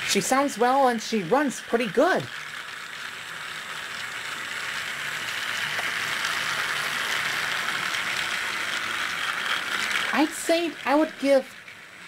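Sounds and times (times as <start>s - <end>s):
toy train motor whirring: 0.0s - 12.0s.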